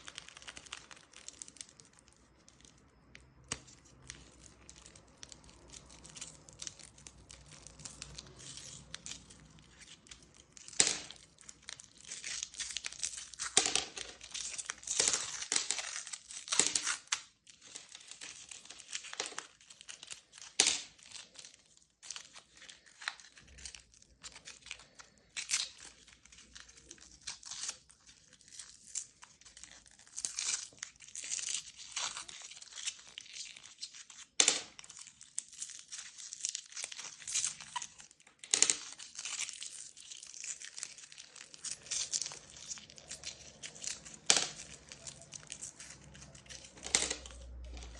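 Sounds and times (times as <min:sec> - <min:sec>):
plastic wrappers crinkling: 0:00.0 - 0:47.9.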